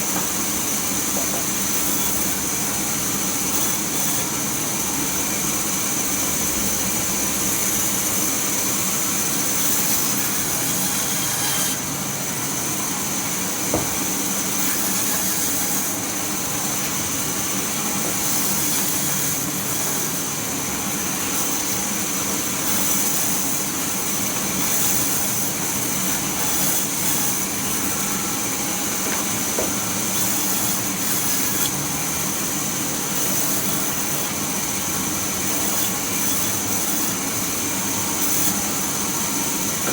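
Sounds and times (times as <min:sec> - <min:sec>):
sawmill motor hum: 0:00.0 - 0:39.9.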